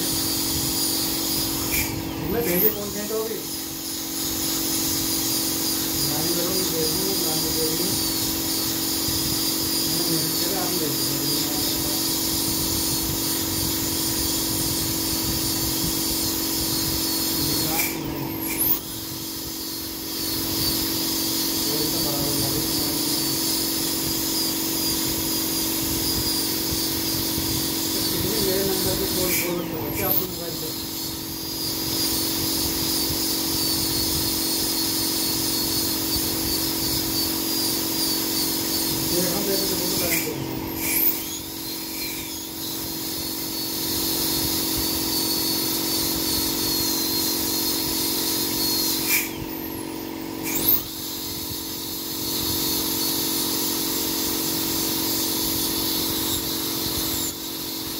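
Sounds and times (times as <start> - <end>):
air and water spray hiss: 0.0 - 49.5
dental drill whirring: 0.0 - 57.9.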